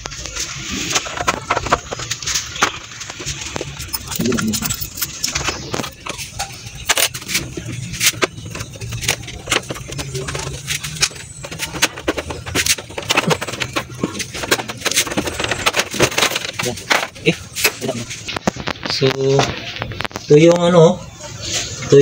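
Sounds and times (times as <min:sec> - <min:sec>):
plastic panels being handled: 0:00.1 - 0:20.2.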